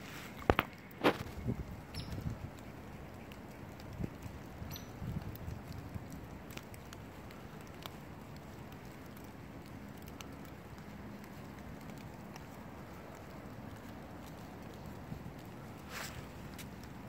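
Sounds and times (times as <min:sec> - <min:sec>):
light rain on leaves: 0:00.0 - 0:17.0.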